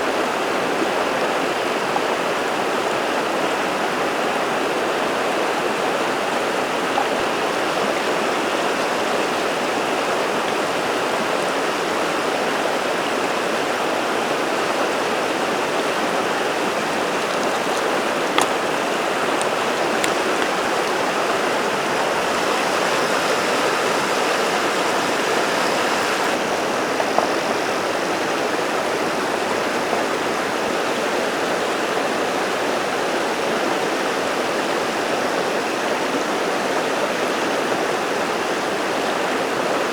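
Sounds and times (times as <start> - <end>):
river water flowing over rocks: 0.1 - 39.9.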